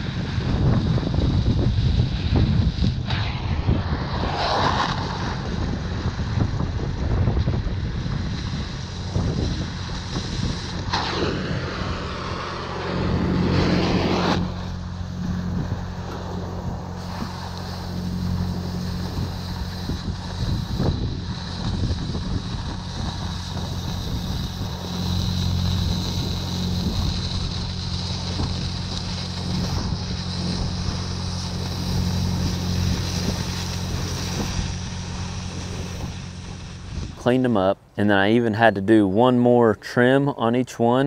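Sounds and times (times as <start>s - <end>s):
cutting torch hissing: 0.0s - 38.0s
low hum: 0.0s - 38.9s.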